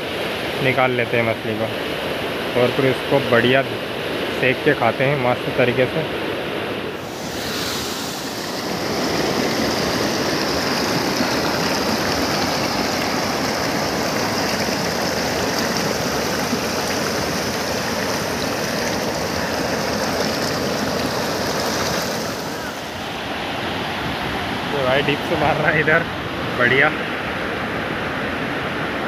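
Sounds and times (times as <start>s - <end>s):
river water rushing over weir: 5.2s - 29.0s.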